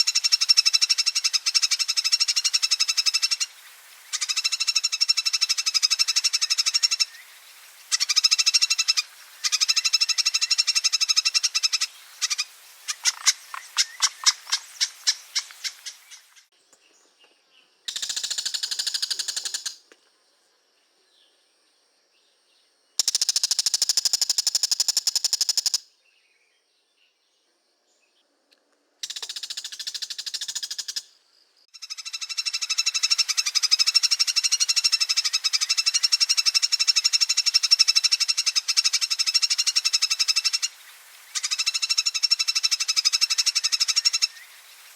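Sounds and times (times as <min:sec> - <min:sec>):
bird rattling call: 0:00.0 - 0:16.5, 0:17.9 - 0:19.8, 0:23.0 - 0:25.8, 0:29.0 - 0:31.1, 0:31.9 - 0:44.9.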